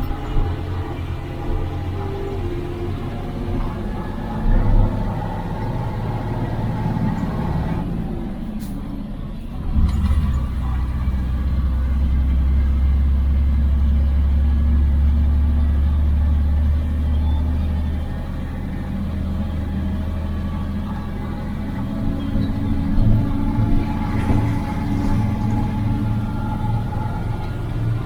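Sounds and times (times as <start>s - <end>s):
truck diesel engine droning: 0.0s - 28.0s.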